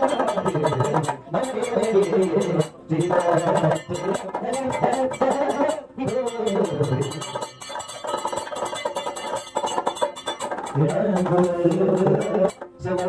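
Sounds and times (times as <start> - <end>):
struck bell-metal percussion beat: 0.0 - 13.0.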